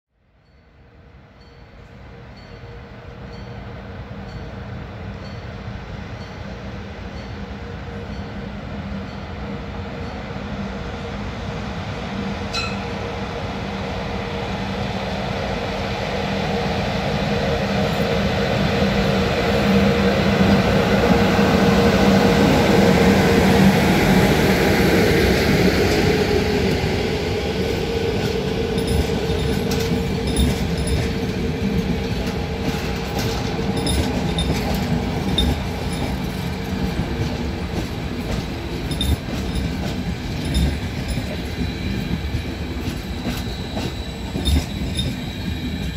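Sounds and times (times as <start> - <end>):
electric locomotive hum: 1.0 - 45.9
train coaches rumbling: 1.4 - 45.9.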